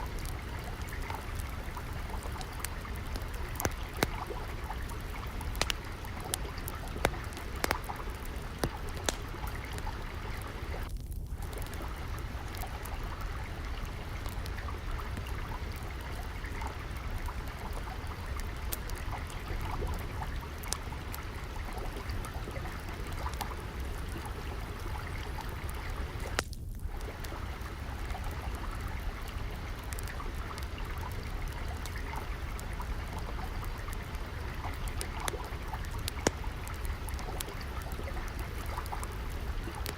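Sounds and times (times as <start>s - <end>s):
flowing water: 0.0s - 39.9s
wood fire crackling: 0.0s - 39.9s.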